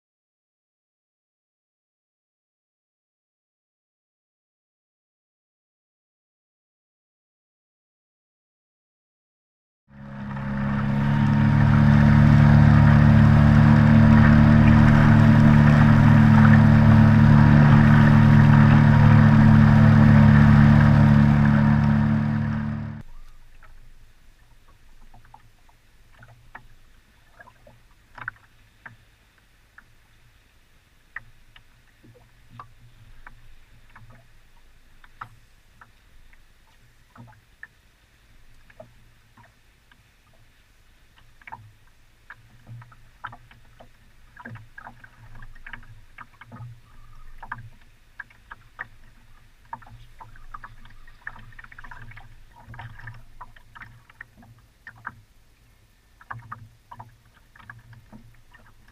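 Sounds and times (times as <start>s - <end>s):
waves lapping against boat hull: 10.0s - 58.9s.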